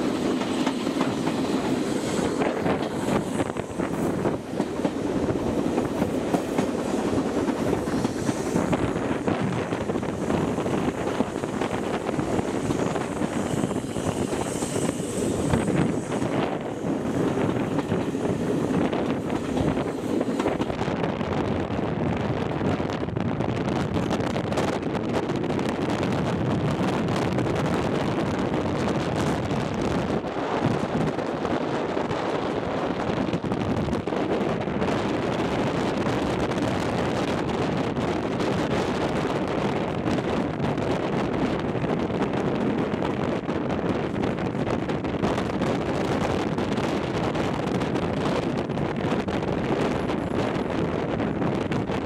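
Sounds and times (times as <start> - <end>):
train coaches running on track: 0.0 - 52.0
wind buffeting microphone: 0.0 - 52.0.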